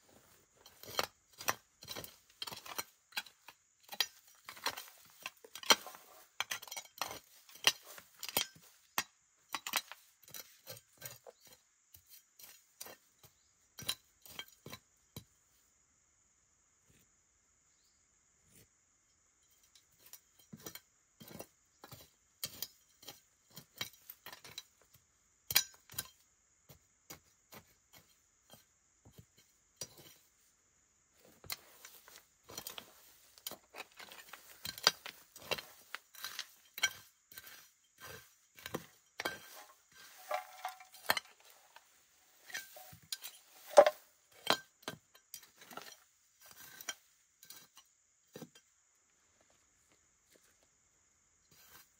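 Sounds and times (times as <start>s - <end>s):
hand tool scraping stony ground: 0.0s - 15.5s, 19.4s - 51.9s
loose stones clinking: 0.1s - 15.4s, 19.4s - 50.8s.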